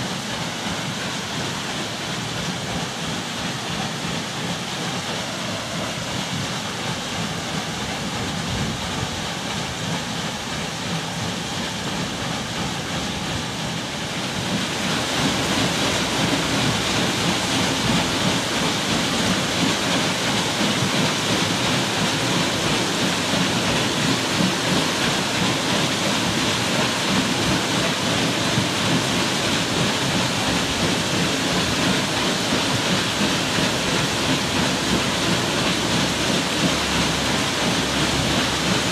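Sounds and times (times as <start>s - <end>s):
water splashing at water wheel: 0.0s - 38.9s.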